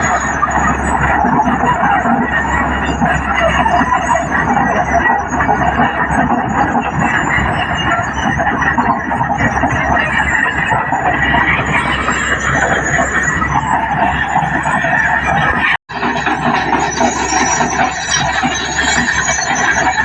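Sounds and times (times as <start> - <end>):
excavator engine and hydraulics: 0.0 - 20.0.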